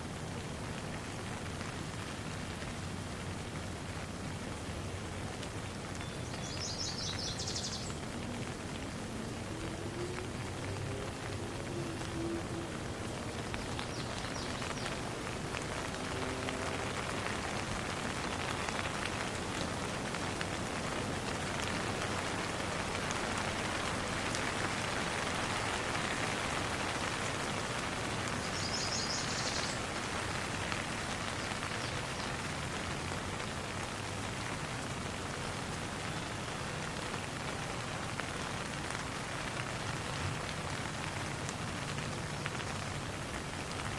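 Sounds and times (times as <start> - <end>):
rain falling on pond: 0.0 - 43.9.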